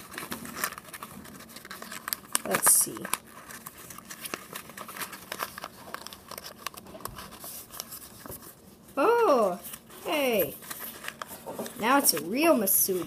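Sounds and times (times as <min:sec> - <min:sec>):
paper crinkling and rustling: 0:00.0 - 0:13.0.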